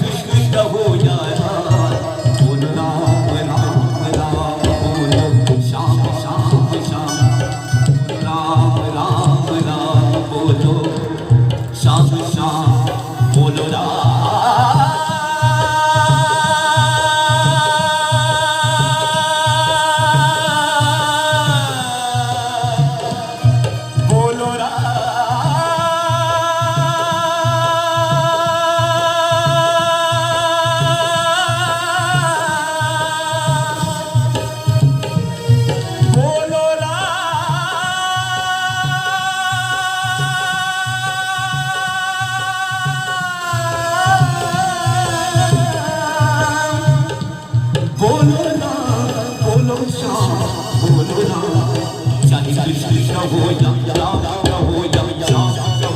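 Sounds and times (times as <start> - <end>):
hand drum rhythm: 0.0 - 55.9.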